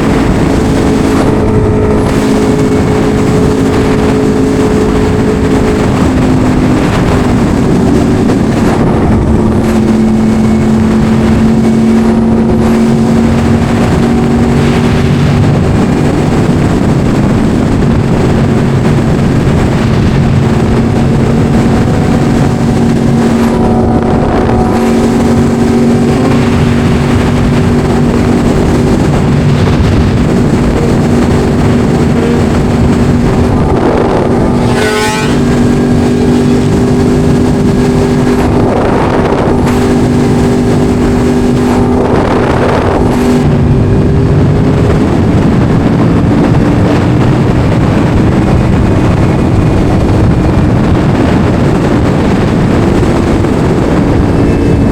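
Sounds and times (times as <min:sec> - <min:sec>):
motorcycle engine running: 0:00.0 - 0:54.9
wind noise: 0:00.0 - 0:54.9.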